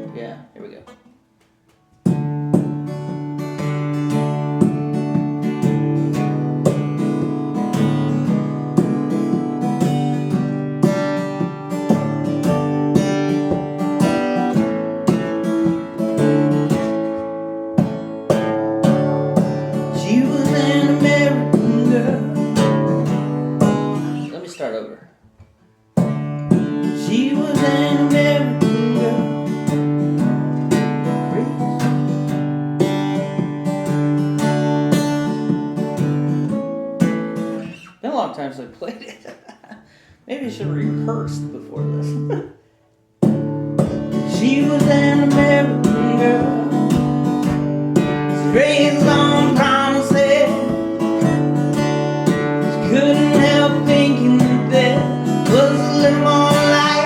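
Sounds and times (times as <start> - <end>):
acoustic guitar strumming: 0.0 - 38.7, 39.3 - 57.0.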